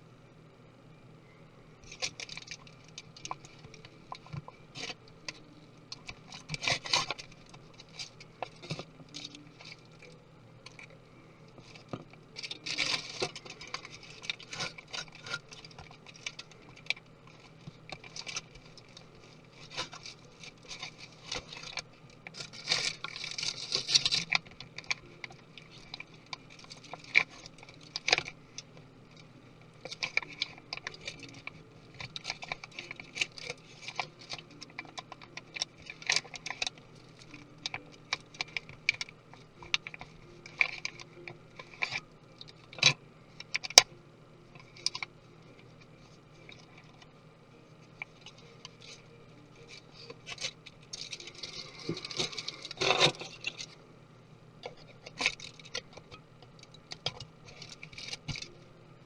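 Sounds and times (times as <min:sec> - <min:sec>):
scraping and rustling: 0:01.9 - 0:43.9, 0:44.5 - 0:53.8.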